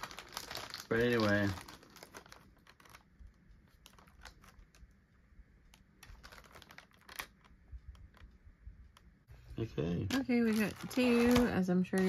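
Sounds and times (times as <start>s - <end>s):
plastic packets crinkling: 0.0s - 5.0s, 5.7s - 8.4s, 10.0s - 12.0s.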